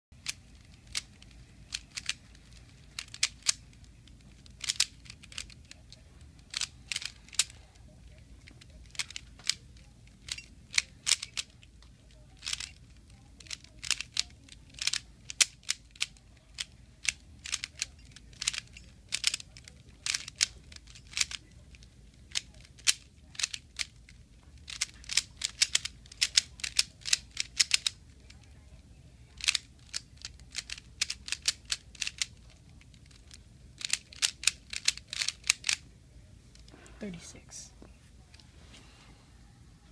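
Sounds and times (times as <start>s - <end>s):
plastic puzzle cube clicking: 0.2s - 28.4s, 29.3s - 35.8s.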